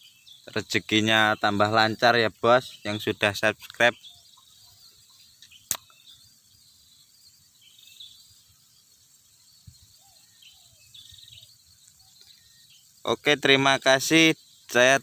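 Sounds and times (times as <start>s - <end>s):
faint bird chirps: 0.0s - 15.0s
insect trills: 0.0s - 15.0s.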